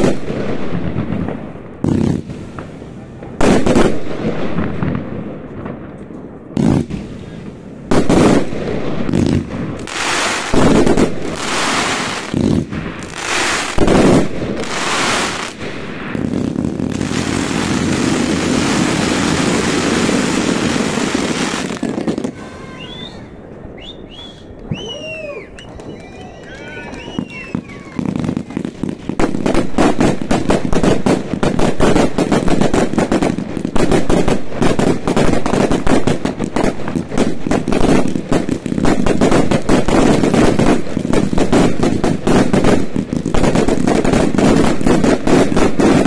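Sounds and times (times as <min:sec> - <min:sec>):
dense rush of fireworks noise: 0:00.0 - 0:46.0
fireworks bangs: 0:00.0 - 0:46.0.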